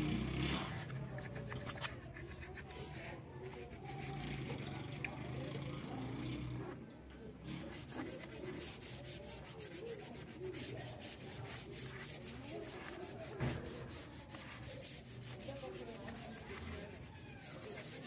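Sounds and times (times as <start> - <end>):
sandpaper rubbing on wood: 0.6 - 5.6, 7.6 - 18.0.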